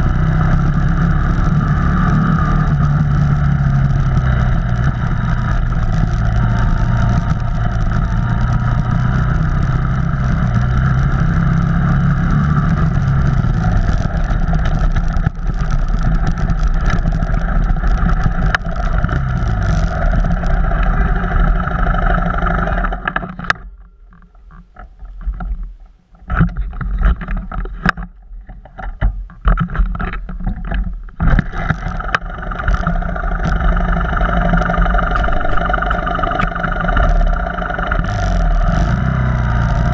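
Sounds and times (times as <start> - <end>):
vehicle engine running: 0.0 - 25.6, 30.4 - 39.9.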